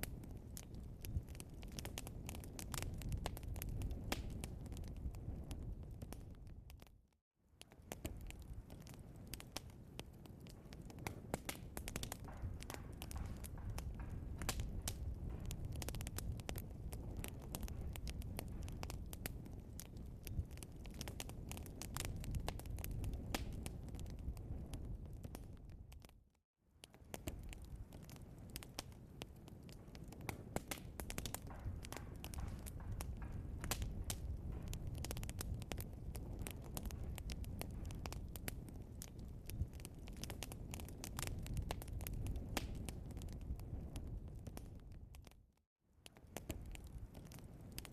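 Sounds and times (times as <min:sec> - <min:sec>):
logs crackling and popping: 0:00.0 - 0:47.9
low rumble of flames: 0:00.0 - 0:47.9.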